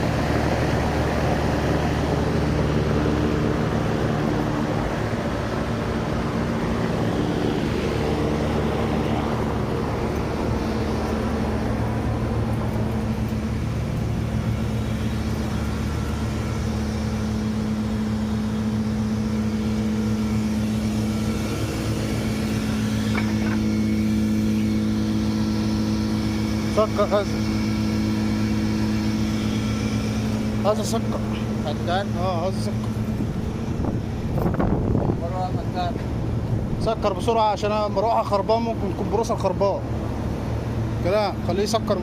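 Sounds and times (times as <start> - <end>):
air conditioning unit humming: 0.0 - 42.0.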